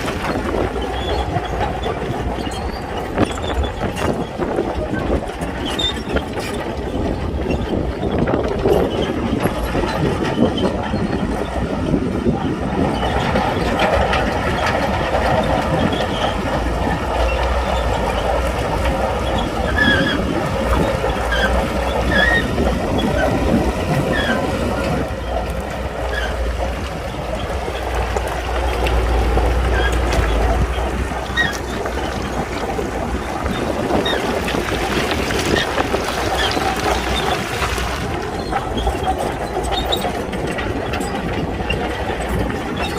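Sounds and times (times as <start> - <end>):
bulldozer engine and tracks: 0.0 - 42.9.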